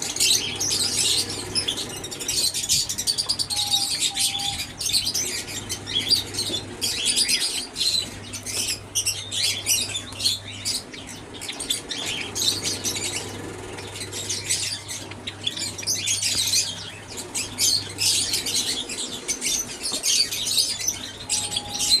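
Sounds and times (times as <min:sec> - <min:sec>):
sparrows chirping: 0:00.0 - 0:22.0
steady low hum: 0:00.0 - 0:22.0.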